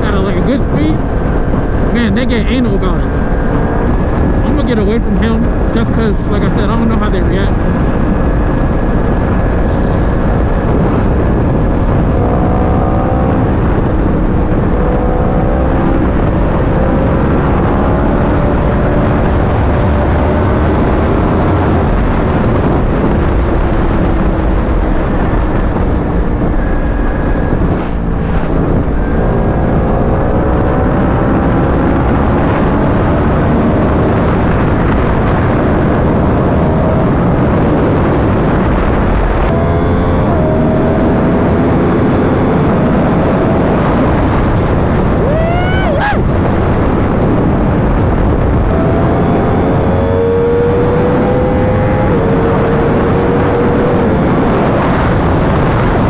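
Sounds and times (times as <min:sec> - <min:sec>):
motorcycle engine accelerating: 0:00.0 - 0:56.0
wind rush over microphone: 0:00.0 - 0:56.0.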